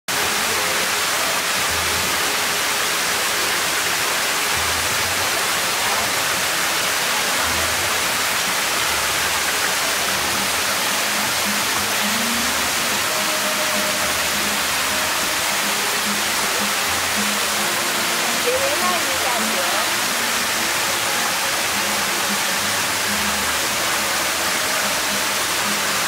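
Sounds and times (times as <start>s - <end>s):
fountain water splashing into basin: 0.1s - 26.0s.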